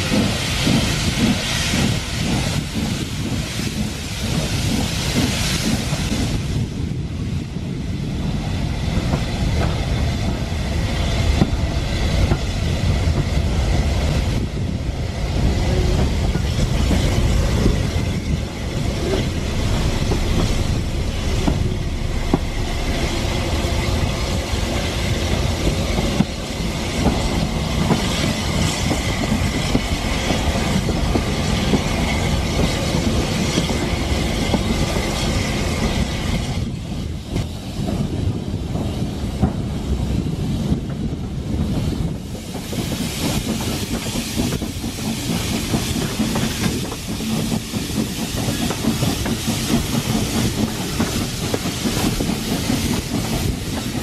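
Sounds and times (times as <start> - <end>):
train carriage rumble: 0.0 - 54.0.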